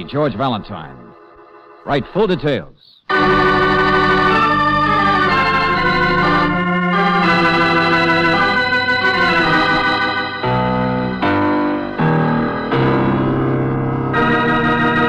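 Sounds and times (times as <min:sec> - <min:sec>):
organ chords: 0:00.0 - 0:15.0.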